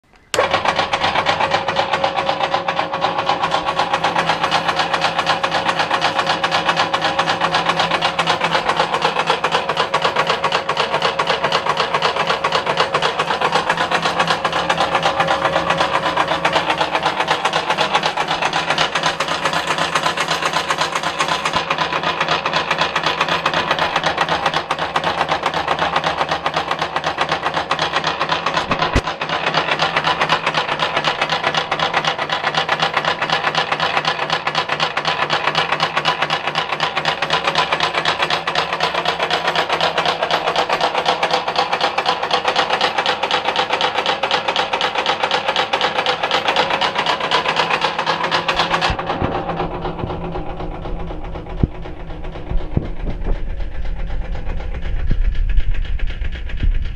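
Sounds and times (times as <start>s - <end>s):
crusher machine clattering: 0.1s - 56.9s.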